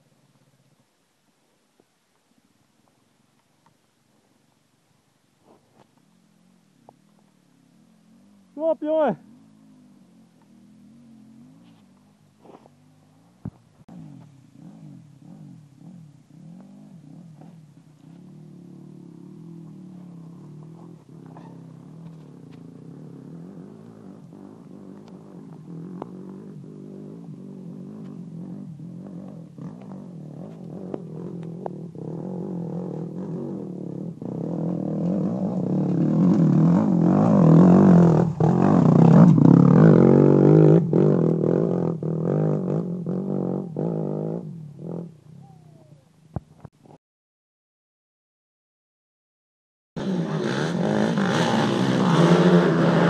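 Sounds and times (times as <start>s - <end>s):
motorcycle engine revving: 6.2s - 46.0s, 50.0s - 53.0s.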